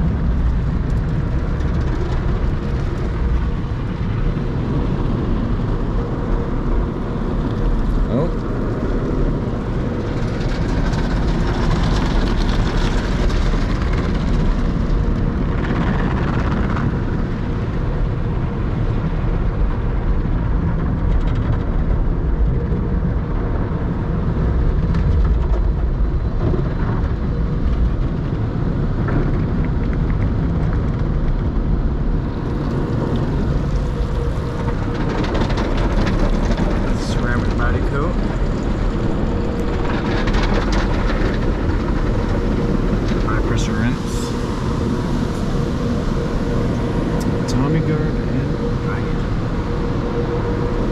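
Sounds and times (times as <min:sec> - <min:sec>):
car wash water spray rumble: 0:00.0 - 0:50.9.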